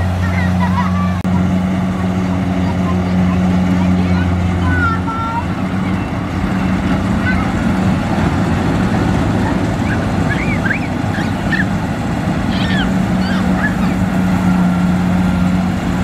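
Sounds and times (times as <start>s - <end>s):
combine harvester engine running: 0.0s - 16.0s
birds chirping: 2.6s - 16.0s.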